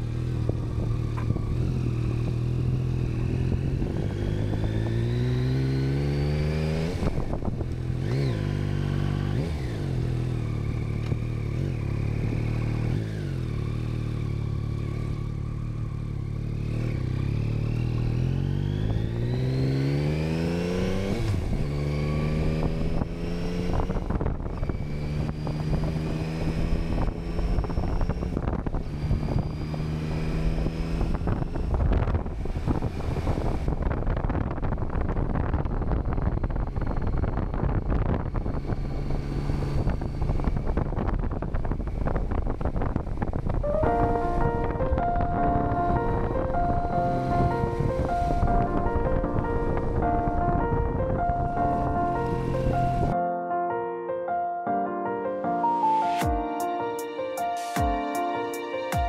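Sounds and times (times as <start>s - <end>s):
motorcycle engine accelerating: 0.0s - 53.2s.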